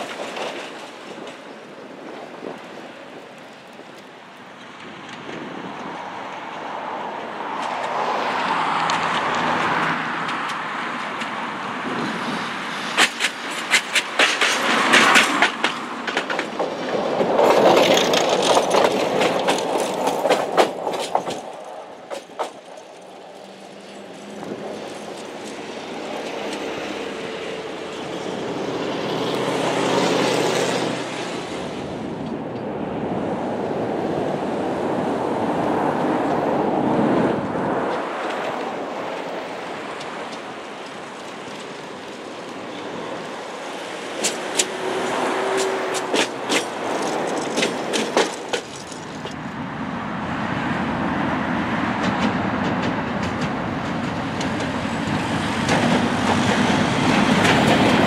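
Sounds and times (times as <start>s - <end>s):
tram running: 0.0s - 58.0s
tram wheels clattering over rail joints: 0.0s - 58.0s.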